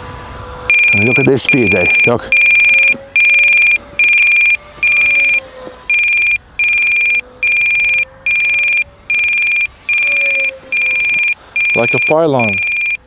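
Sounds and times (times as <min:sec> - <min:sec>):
electronic alarm beeping: 0:00.7 - 0:13.0.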